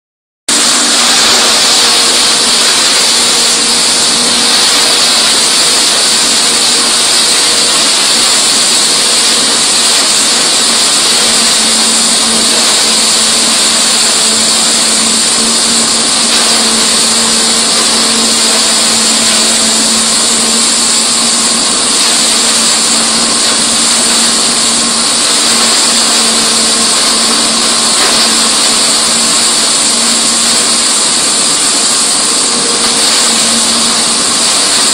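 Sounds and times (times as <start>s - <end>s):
crusher machine with fans running: 0.5s - 34.9s.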